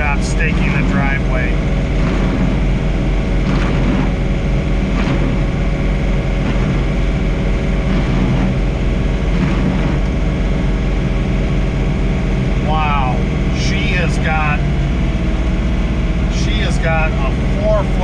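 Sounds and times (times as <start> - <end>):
snowblower working: 0.0 - 18.0
tractor diesel engine running: 0.0 - 18.0.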